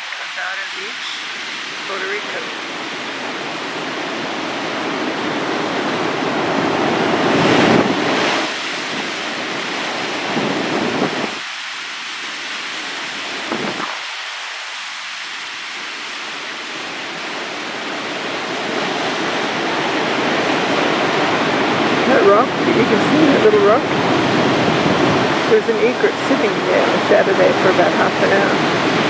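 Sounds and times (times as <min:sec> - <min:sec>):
surf breaking on shore: 0:00.0 - 0:29.0.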